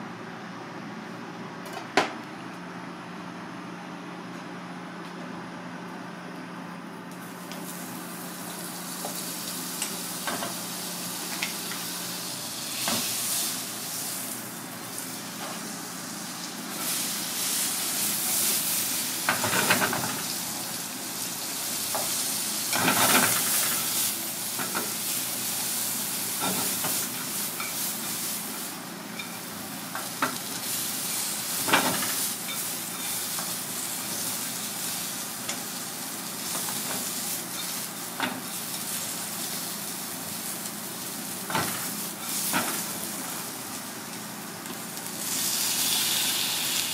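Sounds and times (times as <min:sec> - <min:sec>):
vegetables sizzling in a wok: 0:07.2 - 0:46.9.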